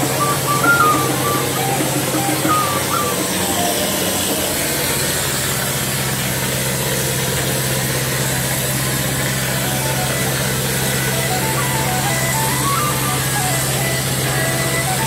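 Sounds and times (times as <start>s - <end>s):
machine humming and hissing: 0.0s - 15.0s.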